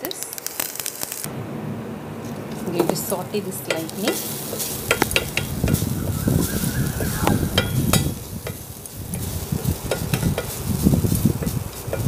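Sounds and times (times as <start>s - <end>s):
hot oil sizzling: 0.3s - 12.0s.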